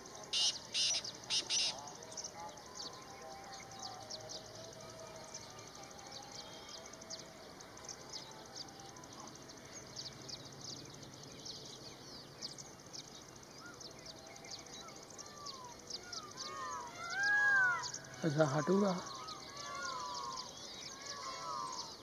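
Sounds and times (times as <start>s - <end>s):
faint high-pitched chirping: 0.0s - 22.0s.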